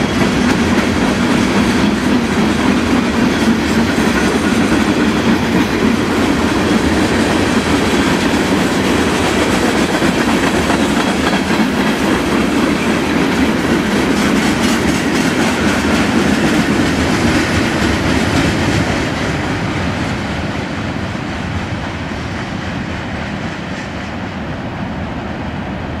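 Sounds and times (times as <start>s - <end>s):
train wheels clacking over rail joints: 0.0s - 24.2s.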